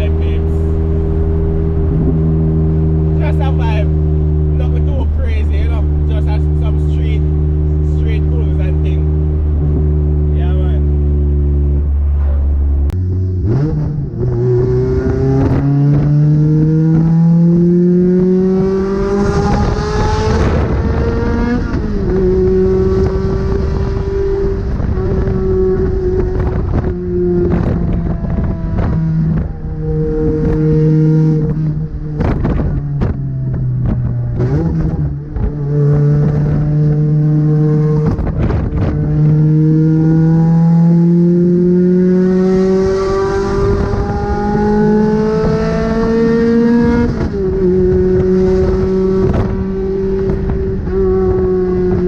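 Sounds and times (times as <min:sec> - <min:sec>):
car engine accelerating through gears: 0:00.0 - 0:52.0.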